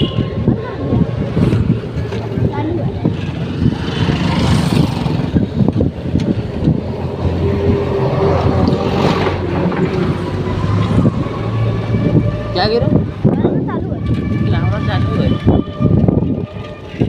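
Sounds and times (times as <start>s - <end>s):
vehicle engine rumble: 0.0s - 17.0s
wind buffeting microphone: 0.0s - 17.0s.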